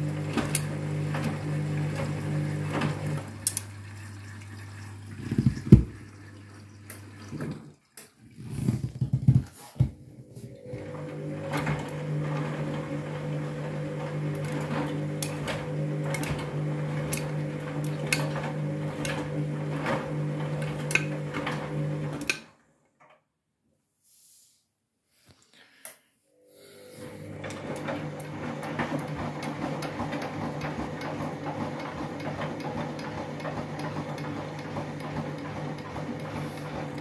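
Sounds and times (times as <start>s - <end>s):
washing machine drum motor humming: 0.0s - 7.9s, 10.1s - 22.4s, 26.9s - 37.0s.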